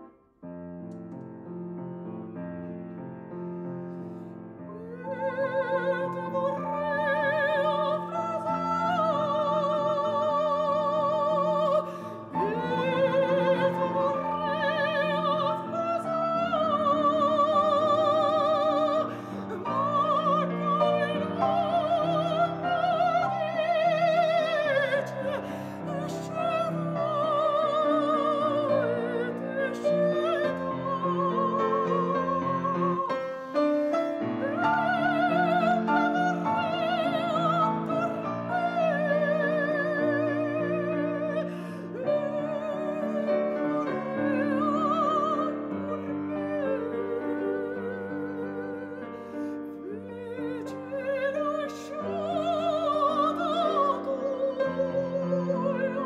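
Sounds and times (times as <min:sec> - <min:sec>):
grand piano: 0:00.0 - 0:56.0
woman singing operatically: 0:04.7 - 0:49.2, 0:49.8 - 0:56.0.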